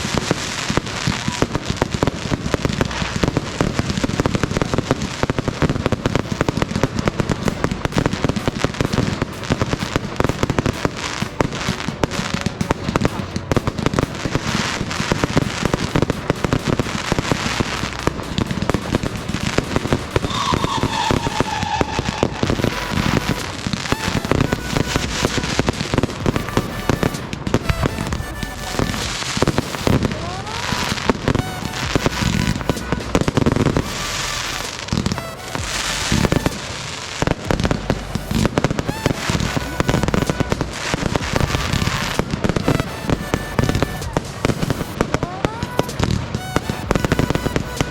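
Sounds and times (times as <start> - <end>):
fireworks bangs and crackles: 0.0 - 47.9
tone falling in pitch: 0.0 - 47.9.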